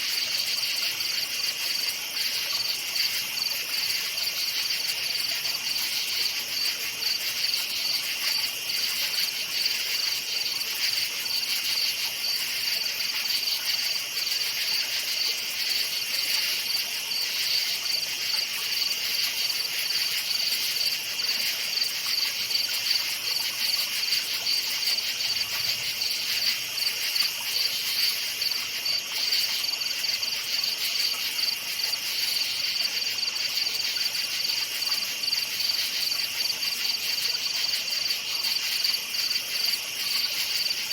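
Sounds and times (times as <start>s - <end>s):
crickets chirping: 0.1s - 40.9s.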